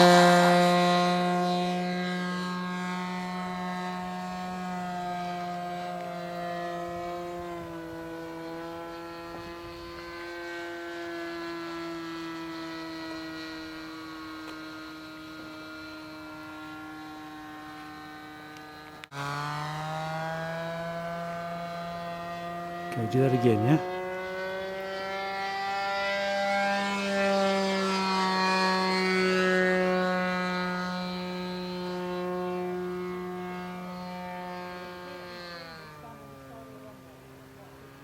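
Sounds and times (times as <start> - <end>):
model plane engine buzzing: 0.0 - 38.0.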